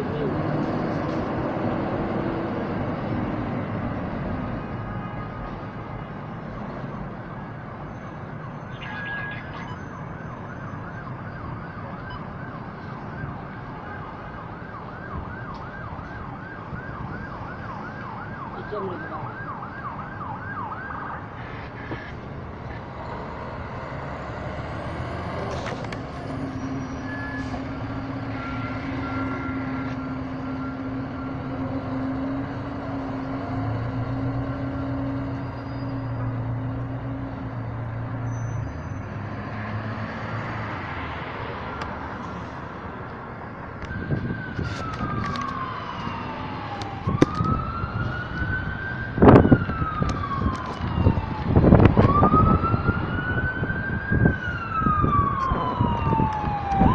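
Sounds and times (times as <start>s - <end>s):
emergency siren wailing: 0.0s - 6.3s, 6.9s - 56.9s.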